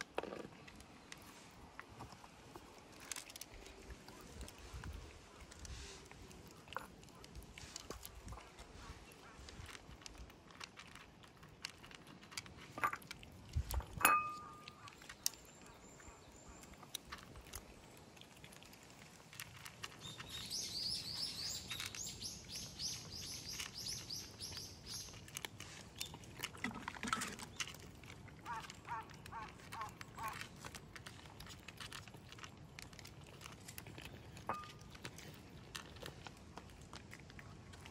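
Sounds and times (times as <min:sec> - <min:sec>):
cats crunching dry kibble: 0:00.0 - 0:37.9.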